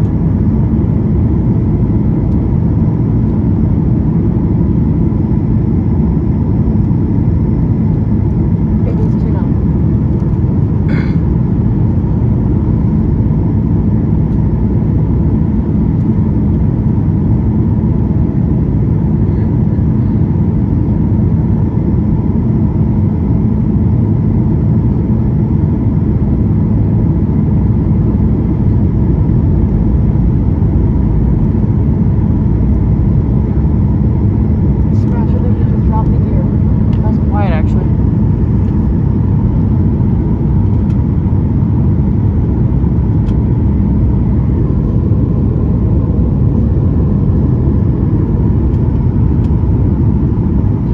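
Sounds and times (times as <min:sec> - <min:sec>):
airplane cabin rumble: 0:00.0 - 0:50.9
faint steady whine: 0:00.0 - 0:50.9.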